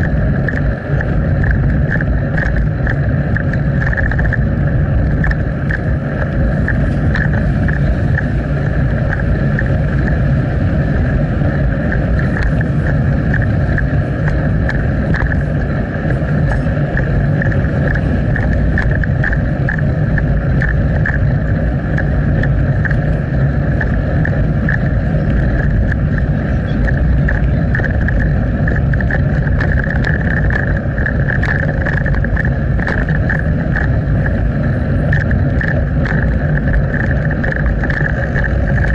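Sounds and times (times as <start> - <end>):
bicycle rolling: 0.0 - 38.9
small scattered clicks: 0.0 - 38.9
wind noise: 0.0 - 38.9.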